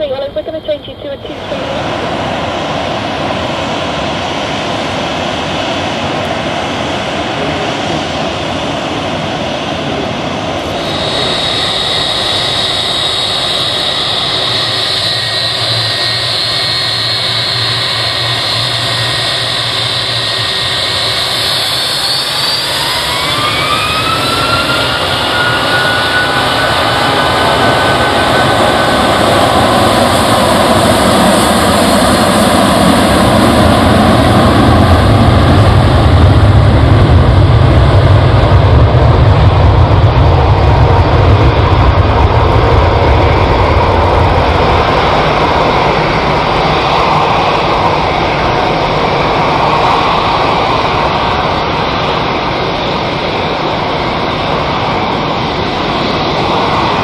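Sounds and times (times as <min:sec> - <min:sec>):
jet engine fan whine: 0:00.0 - 0:57.0
jet engines running: 0:00.0 - 0:57.0
jet engines spooling up: 0:00.0 - 0:57.0.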